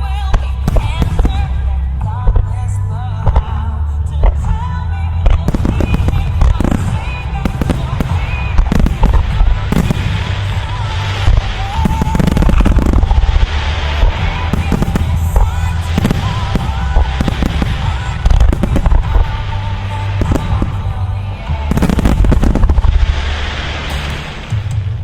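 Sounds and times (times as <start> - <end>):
heavy low rumble: 0.0 - 25.0
music playing: 0.0 - 25.0
fireworks bangs and crackle: 0.1 - 2.6, 5.2 - 25.0.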